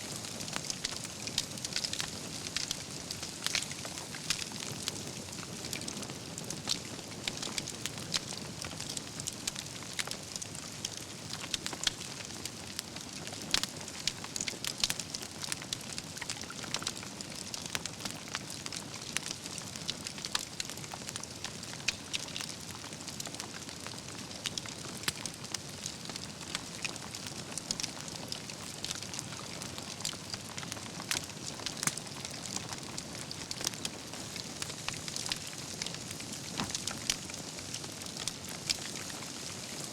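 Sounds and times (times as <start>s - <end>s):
campfire flames rushing: 0.0s - 39.9s
logs crackling and popping: 0.0s - 39.9s.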